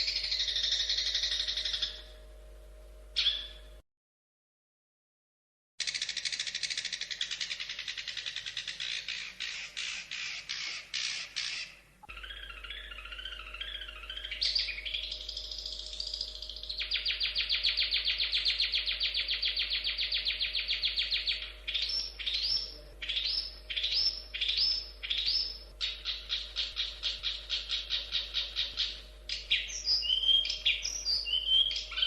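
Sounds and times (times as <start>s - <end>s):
shrike singing trills: 0.0s - 2.4s, 3.1s - 3.8s, 5.8s - 32.0s.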